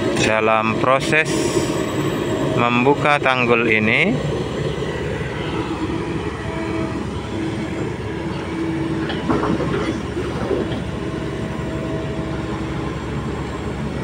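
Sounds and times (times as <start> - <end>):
diesel engine under load: 0.0 - 14.0
machine whine: 0.0 - 14.0.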